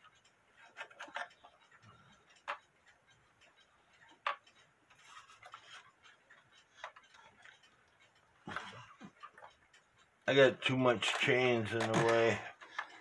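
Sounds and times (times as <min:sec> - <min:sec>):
clock mechanism clicks: 0:00.0 - 0:13.0
faint clock ticking: 0:00.0 - 0:13.0.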